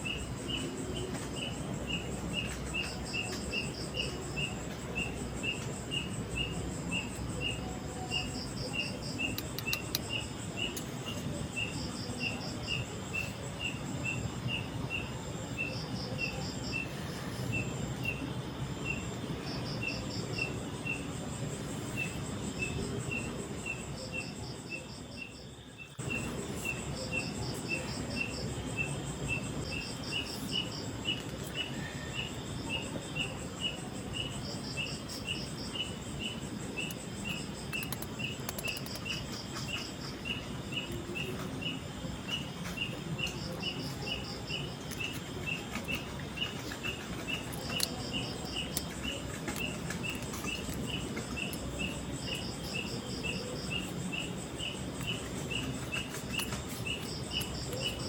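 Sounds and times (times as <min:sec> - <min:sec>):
high insect chirp: 0:00.0 - 0:58.0
pulsed insect trill: 0:00.0 - 0:58.0
steady low hiss: 0:00.0 - 0:58.0.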